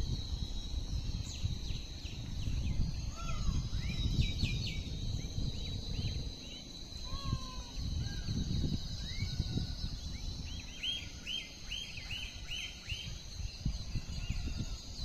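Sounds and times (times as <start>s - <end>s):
insects droning: 0.0s - 15.0s
wind rumble on microphone: 0.0s - 15.0s.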